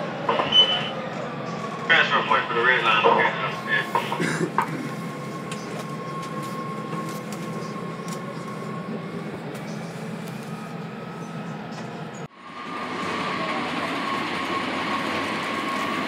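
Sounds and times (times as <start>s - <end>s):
train rumbling in station: 0.0s - 16.0s.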